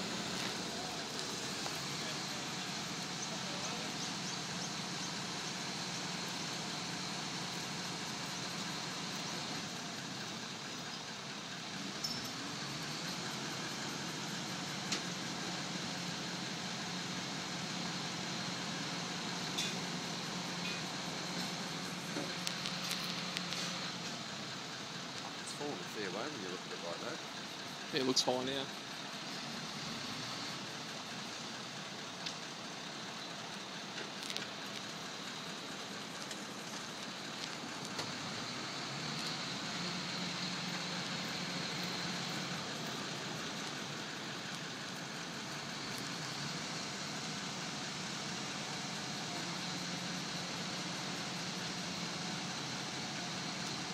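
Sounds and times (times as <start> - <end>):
constant hiss: 0.0 - 53.9
truck engine humming: 0.0 - 53.9.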